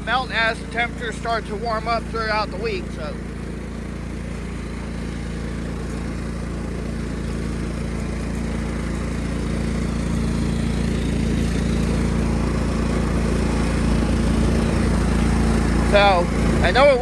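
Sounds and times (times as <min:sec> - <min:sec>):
riding mower engine running: 0:00.0 - 0:17.0.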